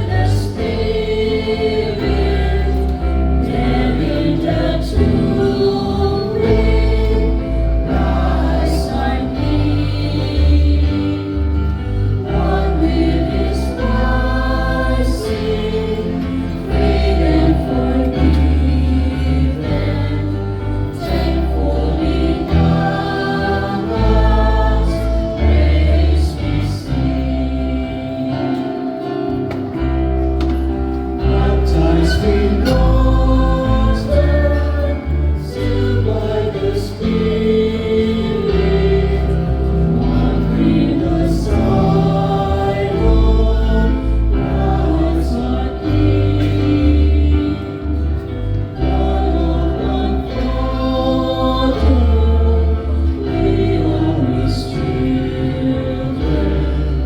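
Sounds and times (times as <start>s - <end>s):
choir singing a hymn: 0.0s - 57.0s
instrumental accompaniment: 0.0s - 57.0s.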